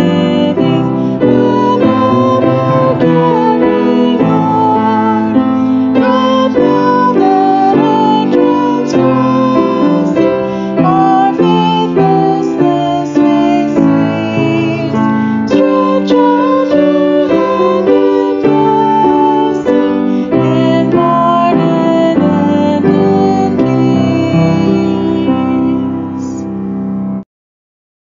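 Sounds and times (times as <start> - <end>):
hymn led by piano: 0.0 - 27.2.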